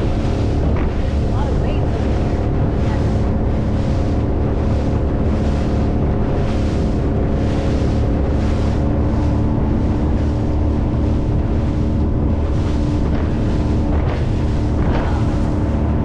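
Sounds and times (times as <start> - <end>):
speedboat engine running: 0.0 - 16.0
wind buffeting microphone: 0.0 - 16.0.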